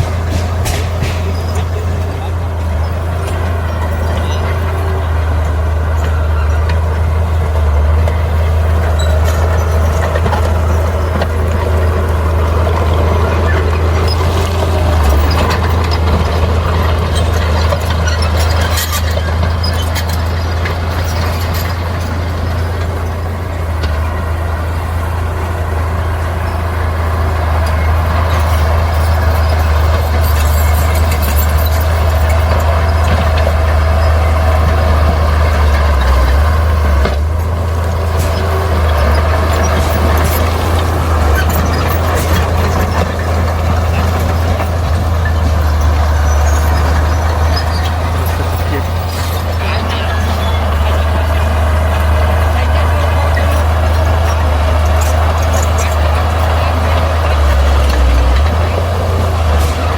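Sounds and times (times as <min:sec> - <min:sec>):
bulldozer diesel engine droning: 0:00.0 - 0:59.9
metallic squeaks and clanks: 0:00.0 - 0:59.9.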